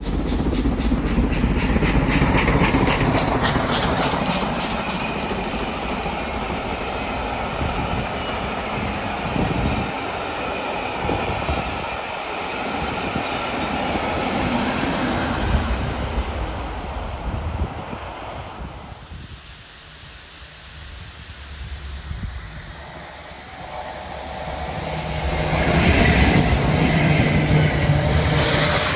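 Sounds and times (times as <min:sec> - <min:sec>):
train rumble: 0:00.0 - 0:28.9.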